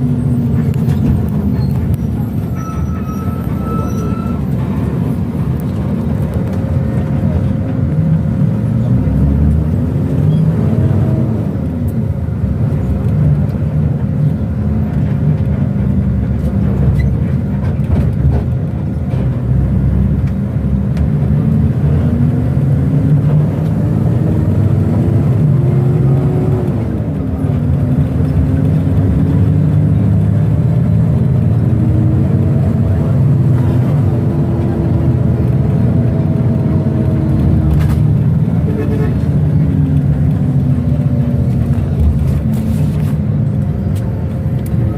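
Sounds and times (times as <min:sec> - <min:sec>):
bus engine rumble: 0:00.0 - 0:44.9
road noise: 0:00.0 - 0:44.9.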